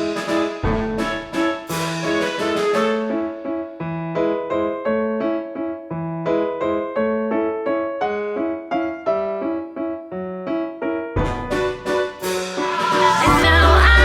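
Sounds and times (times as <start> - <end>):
repeating piano melody: 0.0 - 14.0.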